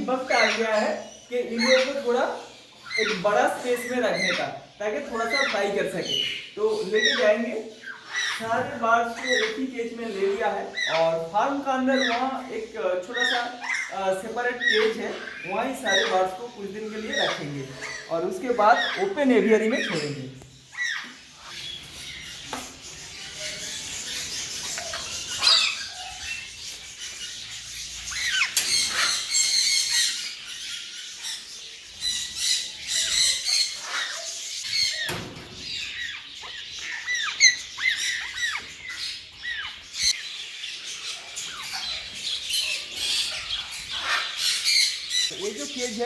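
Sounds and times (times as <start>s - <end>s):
birds chirping and squawking: 0.0s - 46.0s.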